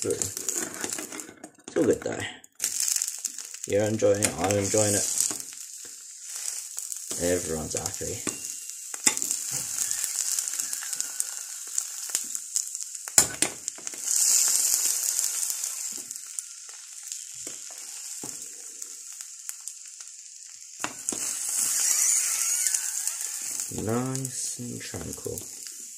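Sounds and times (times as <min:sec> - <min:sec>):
egg sizzling in frying pan: 0:00.0 - 0:25.9.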